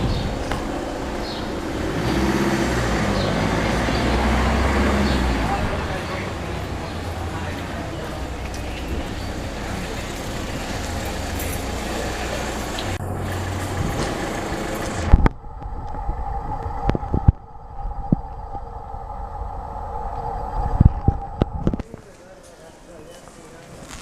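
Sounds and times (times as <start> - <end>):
street traffic noise: 0.0 - 17.4, 20.2 - 24.0.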